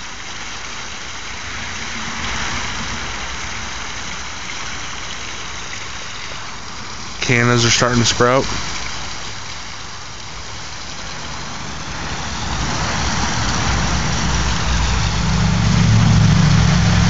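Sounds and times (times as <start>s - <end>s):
pond waterfall splashing: 0.0s - 17.0s
low engine hum: 1.2s - 17.0s.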